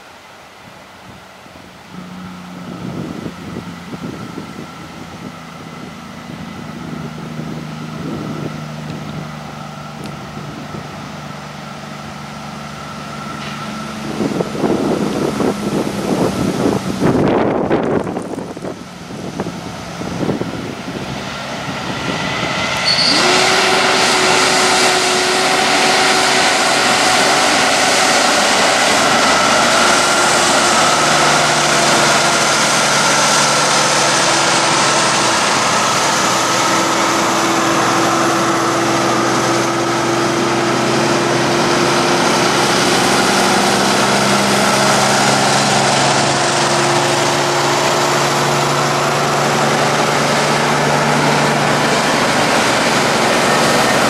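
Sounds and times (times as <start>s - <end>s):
diesel trucks driving past: 0.0s - 54.0s.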